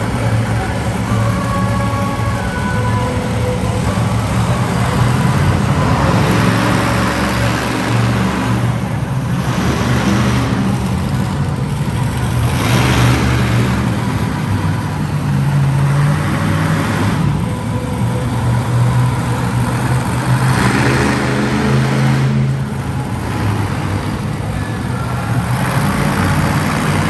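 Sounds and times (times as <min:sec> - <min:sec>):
heavy vehicle engine running: 0:00.0 - 0:27.0.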